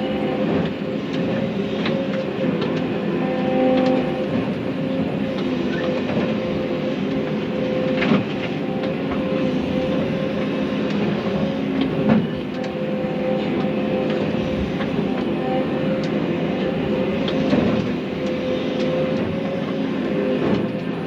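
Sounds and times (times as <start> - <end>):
diesel engine humming: 0.0 - 21.0.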